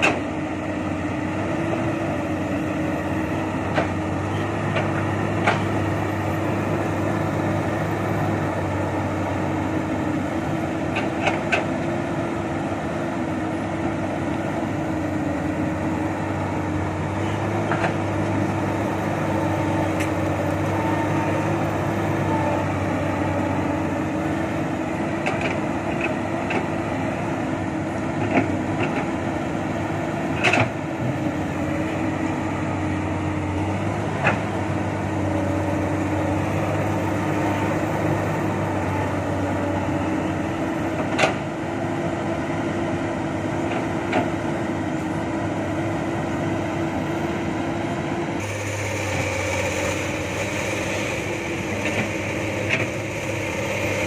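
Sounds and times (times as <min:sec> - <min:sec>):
dump trucks idling: 0:00.0 - 0:54.0
excavator diesel engine running: 0:00.0 - 0:54.0.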